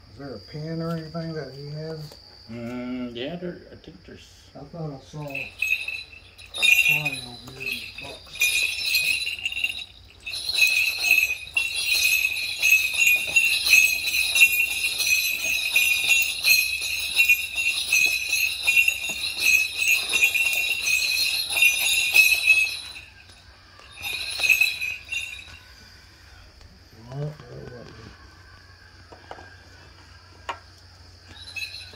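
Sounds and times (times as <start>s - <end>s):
bells jingling: 0.0s - 3.6s, 4.5s - 27.8s, 28.8s - 31.9s.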